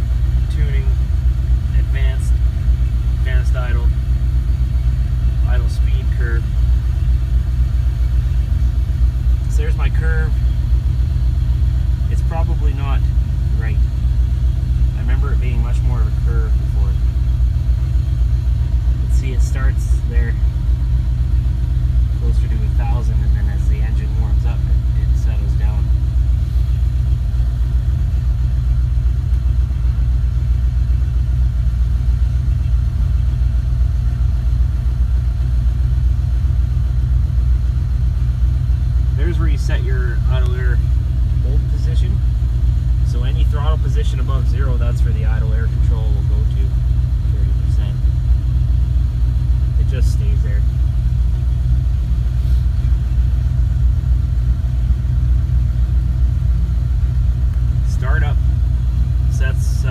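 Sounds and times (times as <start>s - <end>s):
engine idling with deep rumble: 0.0s - 59.9s.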